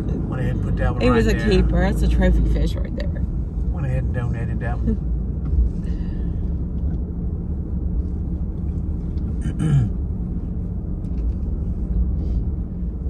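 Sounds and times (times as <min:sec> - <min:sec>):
vehicle engine and tyre rumble: 0:00.0 - 0:13.0.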